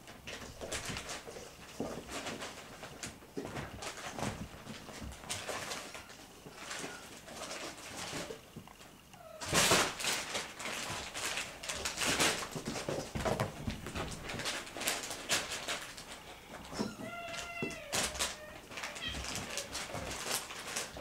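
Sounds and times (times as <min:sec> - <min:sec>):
kittens scrabbling on sofa: 0:00.1 - 0:08.7, 0:09.4 - 0:21.0.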